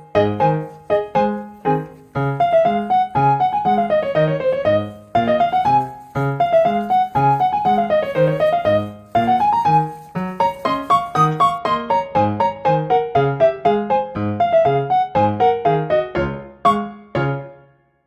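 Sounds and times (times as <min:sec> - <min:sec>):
bouncy piano music: 0:00.0 - 0:18.0.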